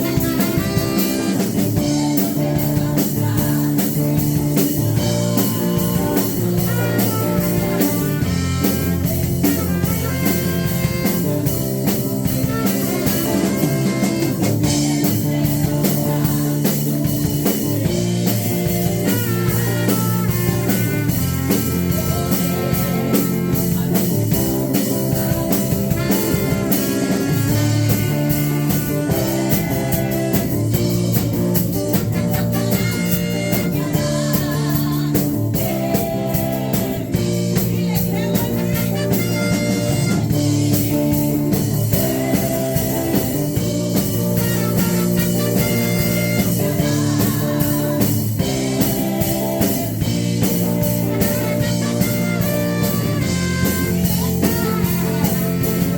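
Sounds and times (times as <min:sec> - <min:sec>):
drum kit: 0:00.0 - 0:55.9
electric guitar: 0:00.0 - 0:55.9
live band playing: 0:00.0 - 0:55.9.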